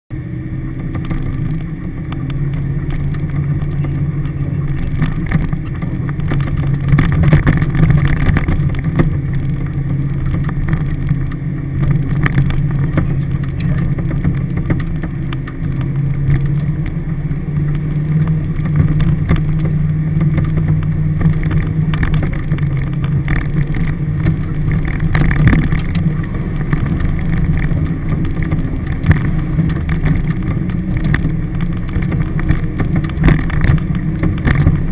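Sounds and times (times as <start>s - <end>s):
vehicle engine running: 0.1s - 34.9s
vehicle knocks and rattles: 0.7s - 34.9s.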